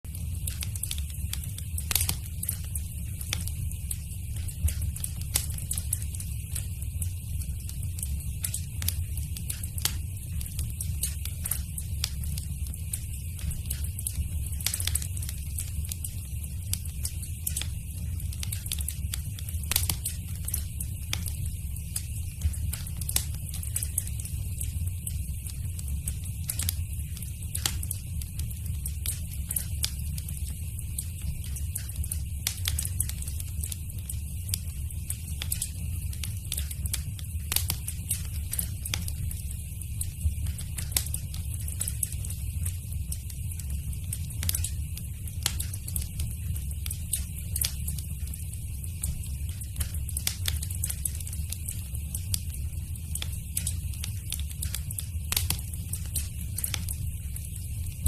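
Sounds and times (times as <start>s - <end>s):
low rumble of flames: 0.0s - 58.0s
wood fire crackling: 0.1s - 58.0s.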